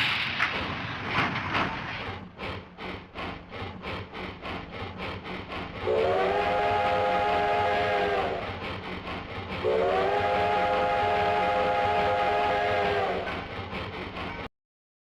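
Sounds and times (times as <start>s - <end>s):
steam locomotive chuffing: 0.0s - 14.5s.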